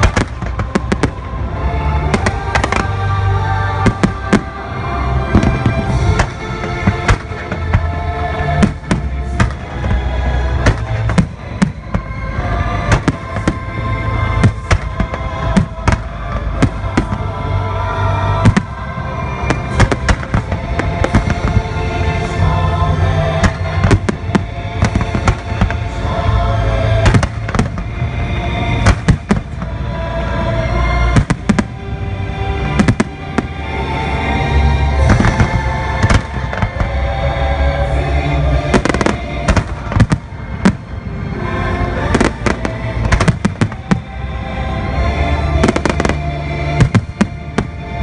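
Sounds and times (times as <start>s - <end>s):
fireworks bangs: 0.0s - 17.6s, 18.2s - 22.5s, 23.3s - 26.1s, 26.9s - 29.8s, 31.0s - 31.8s, 32.6s - 34.0s, 34.9s - 37.2s, 38.6s - 41.0s, 42.0s - 44.2s, 45.4s - 48.0s
loud show music: 0.0s - 48.0s.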